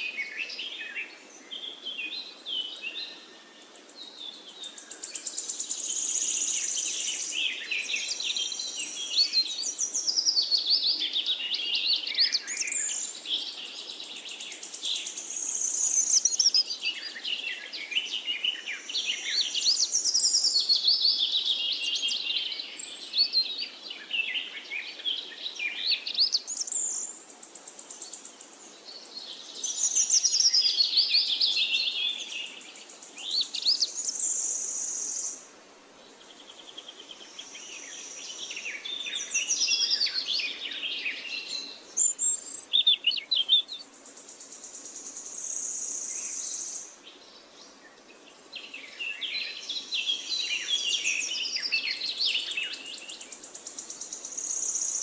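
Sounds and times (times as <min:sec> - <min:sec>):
birds chirping and singing: 0:00.0 - 0:35.4, 0:36.4 - 0:55.0.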